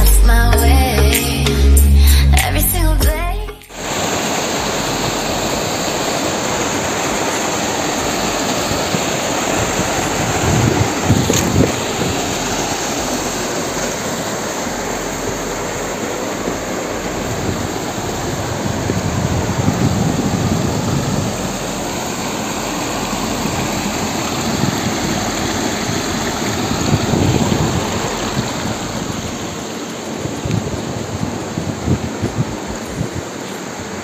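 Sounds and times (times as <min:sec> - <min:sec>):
stream and small waterfall rushing: 0:03.2 - 0:34.0.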